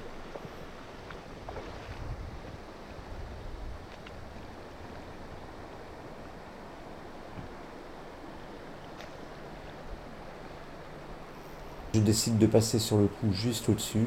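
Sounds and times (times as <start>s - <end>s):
river water rushing: 0.0s - 11.9s.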